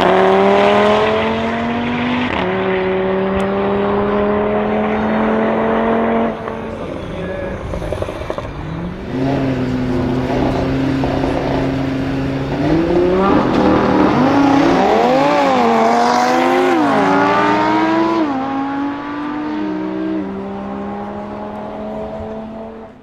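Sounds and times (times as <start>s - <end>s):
car engines revving through upshifts: 0.0s - 23.0s.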